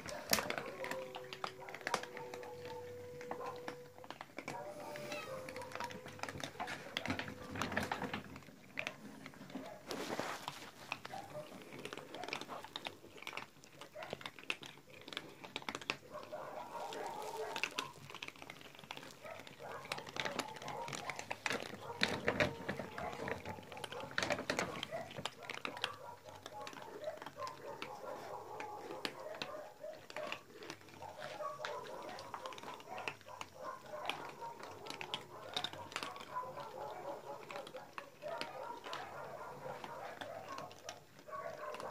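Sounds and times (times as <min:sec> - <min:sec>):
cats crunching dry kibble: 0:00.0 - 0:41.9.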